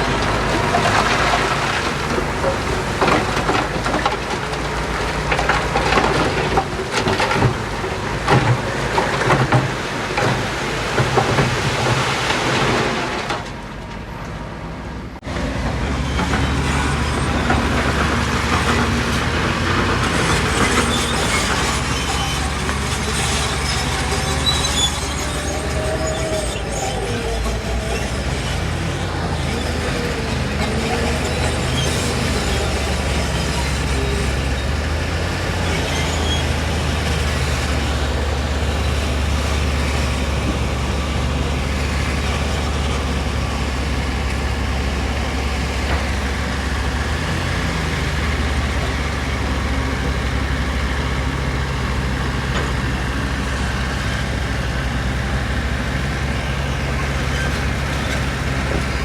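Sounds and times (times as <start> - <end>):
heavy diesel engine drone: 0.0 - 59.0.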